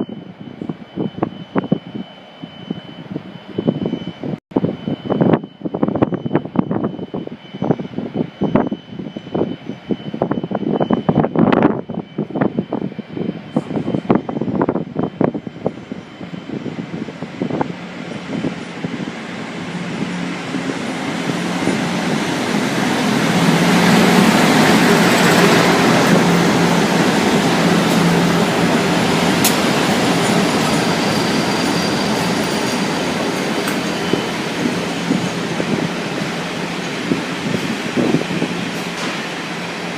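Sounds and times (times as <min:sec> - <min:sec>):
train rail and wheel noise: 0:00.0 - 0:39.9.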